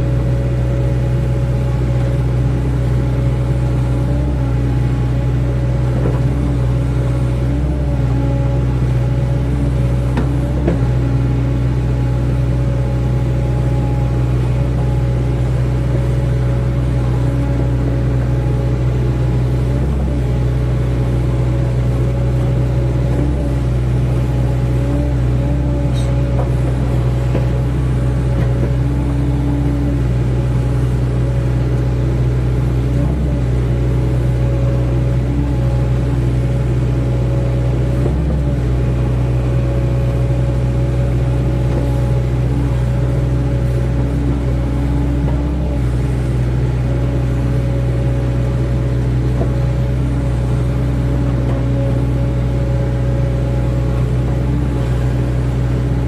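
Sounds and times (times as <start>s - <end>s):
excavator diesel engine droning: 0.0s - 56.0s.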